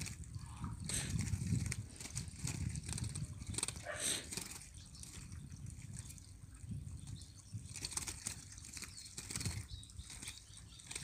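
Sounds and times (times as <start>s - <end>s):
bird wing flutters and rustles: 0.0s - 11.0s.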